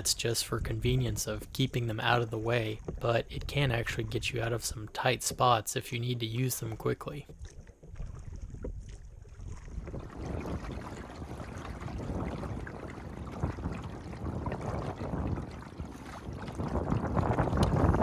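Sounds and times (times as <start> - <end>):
wind rumbling on microphone: 0.0 - 5.4, 7.2 - 18.0
water lapping against a hull: 0.0 - 18.0.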